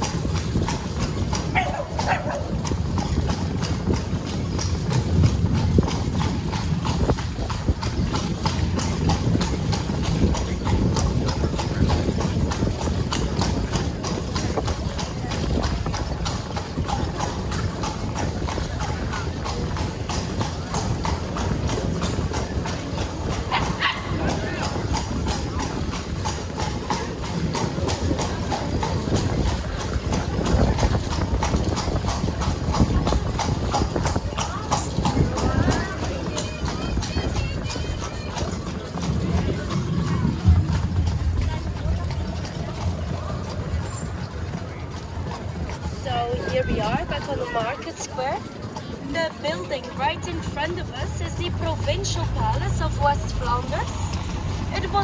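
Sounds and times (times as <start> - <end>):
carriage wheels rumbling on stones: 0.0 - 55.0
hooves clip-clopping on cobblestones: 0.0 - 55.0.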